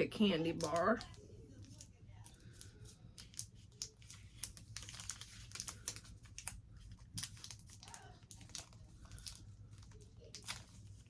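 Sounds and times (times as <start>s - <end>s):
plastic wrapper crinkling: 0.2s - 11.0s.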